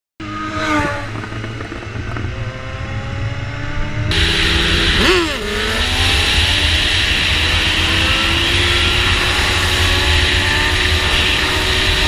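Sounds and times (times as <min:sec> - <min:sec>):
motorcycle engine at speed: 0:00.2 - 0:12.0
motorcycle engine revving: 0:00.2 - 0:12.0
wind noise: 0:00.8 - 0:12.0.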